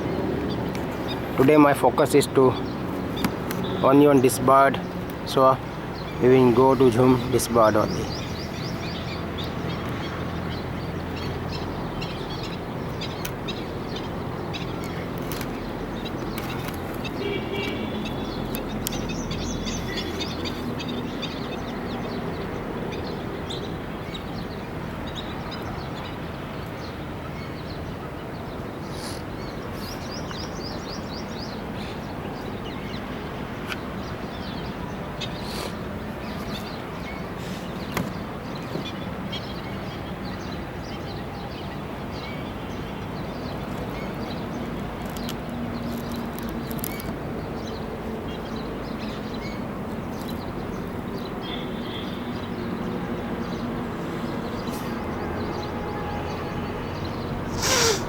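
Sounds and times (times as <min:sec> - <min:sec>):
birds chirping and calling: 0:00.0 - 0:58.0
low outdoor background noise: 0:00.0 - 0:58.0.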